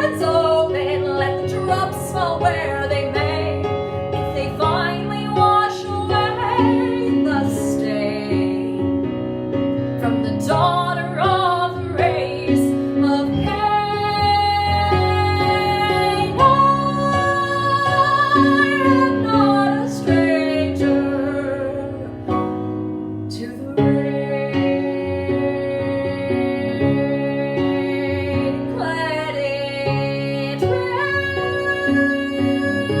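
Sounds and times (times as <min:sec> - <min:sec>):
woman singing a ballad: 0:00.0 - 0:09.2, 0:10.0 - 0:33.0
instrumental accompaniment: 0:00.0 - 0:33.0.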